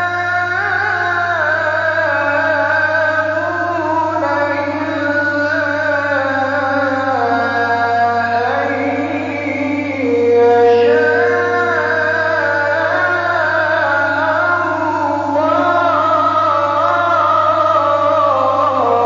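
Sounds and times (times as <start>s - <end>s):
man reciting melodically: 0.0s - 19.0s.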